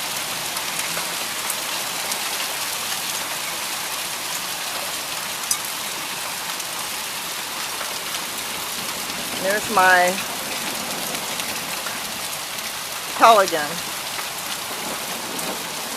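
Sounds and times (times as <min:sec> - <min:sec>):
heavy rain hissing: 0:00.0 - 0:15.9
hailstones ticking: 0:00.1 - 0:15.9.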